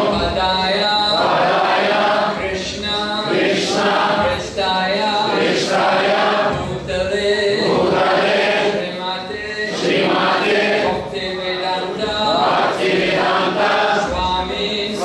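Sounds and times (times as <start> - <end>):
amplified man's singing voice: 0.0 - 15.0
group chanting: 0.0 - 15.0.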